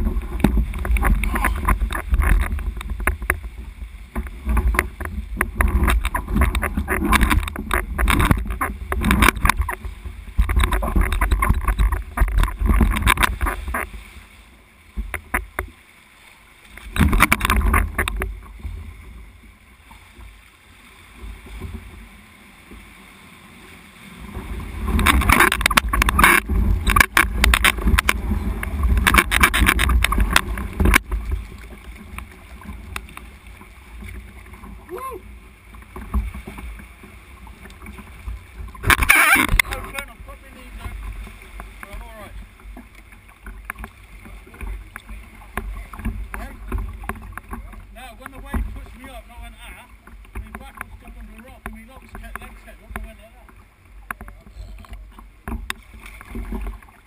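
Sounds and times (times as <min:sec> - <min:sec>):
wind rumble on microphone: 0:00.0 - 0:14.2, 0:16.8 - 0:20.4, 0:21.1 - 0:57.0
water sloshing around kayak: 0:00.0 - 0:57.0.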